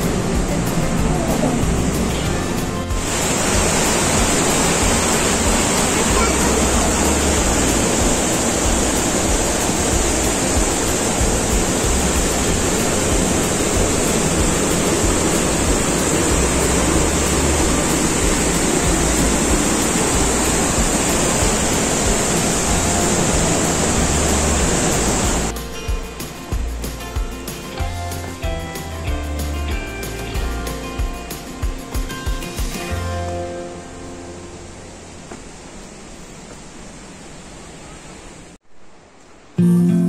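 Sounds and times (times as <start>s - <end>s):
waterfall rushing: 0.0s - 39.6s.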